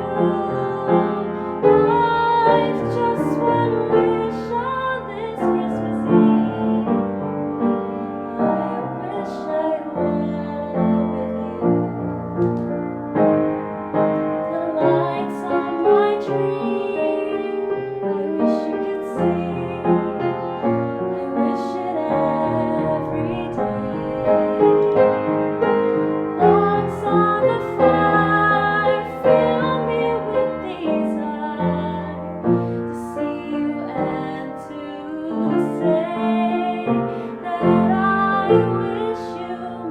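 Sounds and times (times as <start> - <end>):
slow piano chords with melody: 0.0 - 39.9.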